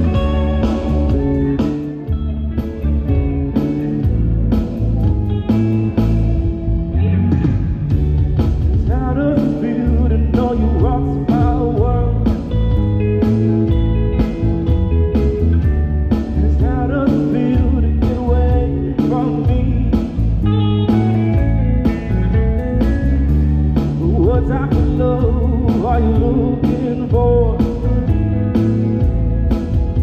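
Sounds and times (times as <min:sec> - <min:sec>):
bass guitar: 0:00.0 - 0:30.0
electric guitar bending notes: 0:00.0 - 0:30.0
steady drum beat: 0:00.0 - 0:30.0.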